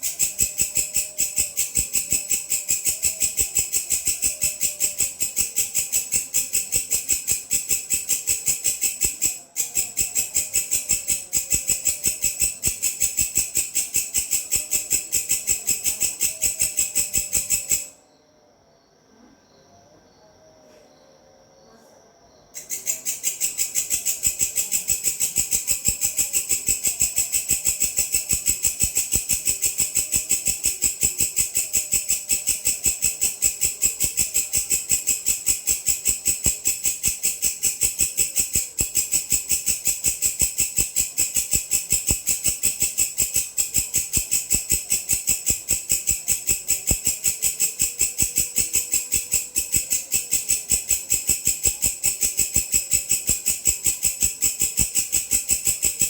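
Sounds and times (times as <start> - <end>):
grasshopper chirring: 0.0 - 18.0, 22.6 - 56.0.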